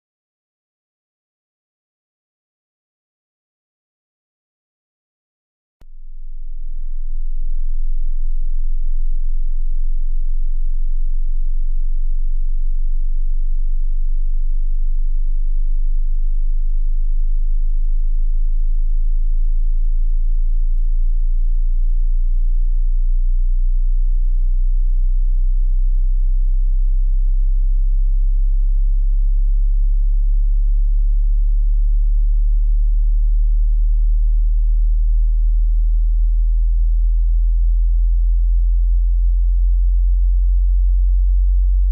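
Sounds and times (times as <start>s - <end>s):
deep bass sine tone sweep: 5.8s - 41.9s.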